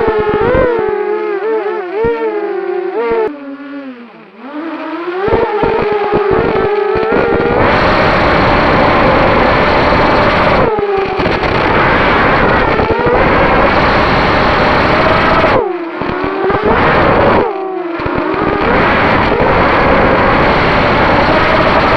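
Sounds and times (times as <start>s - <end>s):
quadcopter motors whining: 0.0s - 21.9s.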